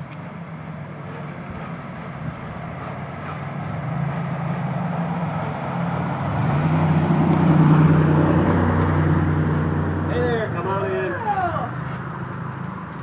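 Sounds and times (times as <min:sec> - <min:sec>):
car driving by: 0:00.0 - 0:13.0.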